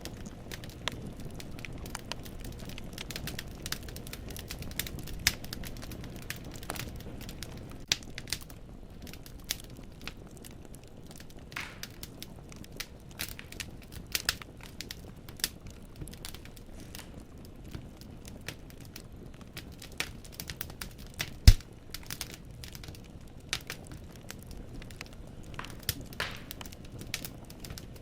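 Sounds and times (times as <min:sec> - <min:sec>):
burning logs popping: 0:00.0 - 0:28.0
low rumble of flames: 0:00.0 - 0:28.0
wood fire crackling: 0:00.0 - 0:28.0.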